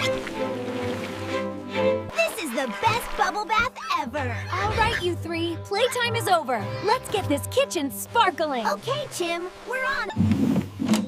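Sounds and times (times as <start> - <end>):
bowed string music: 0.0 - 11.0.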